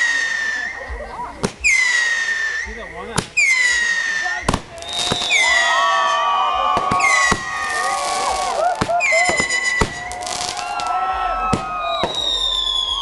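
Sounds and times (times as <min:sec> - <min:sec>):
whistling fireworks shrieking: 0:00.0 - 0:01.0, 0:01.6 - 0:13.0
firework bangs and crackling: 0:00.0 - 0:13.0.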